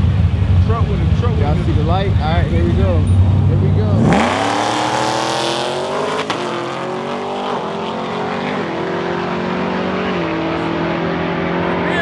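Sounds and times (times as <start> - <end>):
drag car engine at full throttle: 0.0 - 12.0.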